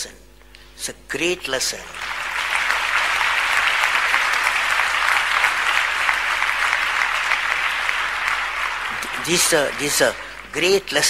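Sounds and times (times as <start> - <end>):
large audience applauding: 1.9 - 11.0.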